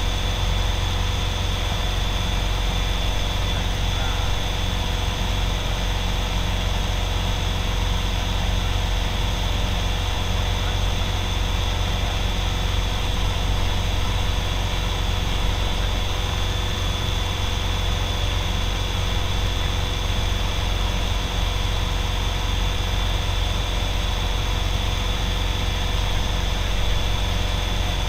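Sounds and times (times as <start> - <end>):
aircraft engine drone: 0.0 - 28.0
steady hum: 0.0 - 28.0.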